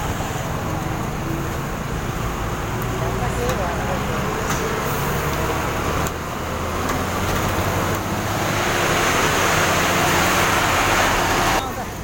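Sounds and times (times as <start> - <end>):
road and machinery noise: 0.0 - 12.0.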